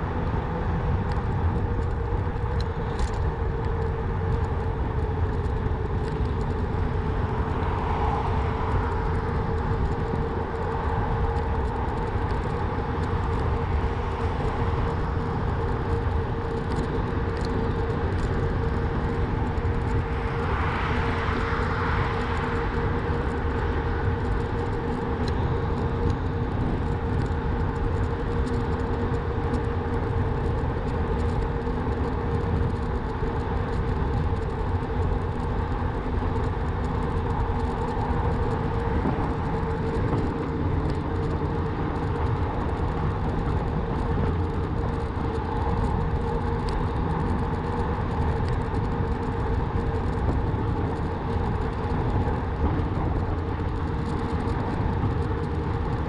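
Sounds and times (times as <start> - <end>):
bike riding rumble: 0.0 - 56.0
wind and tyre hiss: 0.0 - 56.0.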